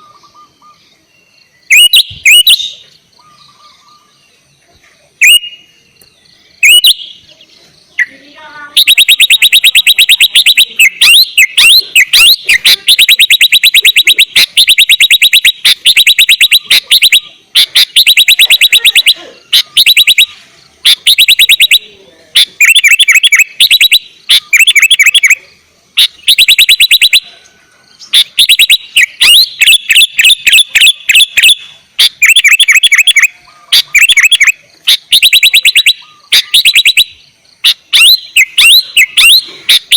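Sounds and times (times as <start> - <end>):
bulbul singing in trilled bursts: 0.0 - 4.3, 5.2 - 27.3, 27.9 - 39.9.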